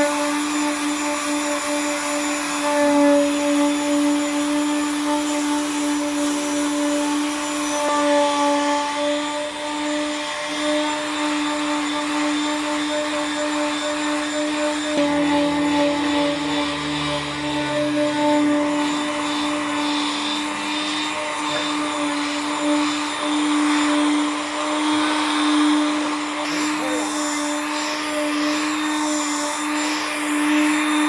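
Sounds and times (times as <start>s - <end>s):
electric power tool whine: 0.0s - 31.0s.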